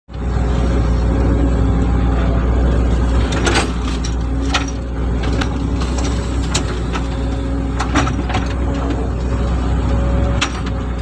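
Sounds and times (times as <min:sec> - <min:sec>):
excavator diesel engine drone: 0:00.1 - 0:11.0.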